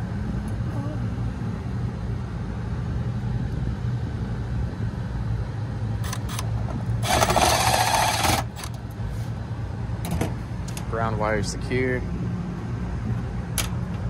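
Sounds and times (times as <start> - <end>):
low machinery hum: 0.0 - 14.0.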